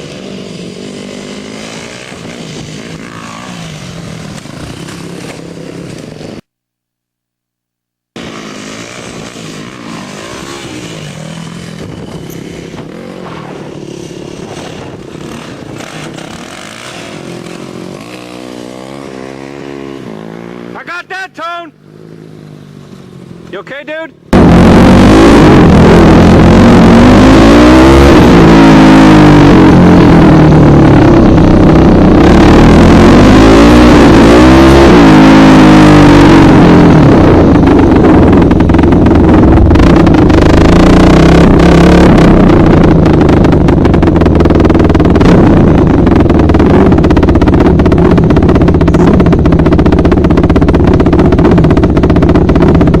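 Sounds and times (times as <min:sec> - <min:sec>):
dirt bike engine revving: 0:00.0 - 0:06.4, 0:08.2 - 0:21.0, 0:21.8 - 0:53.0.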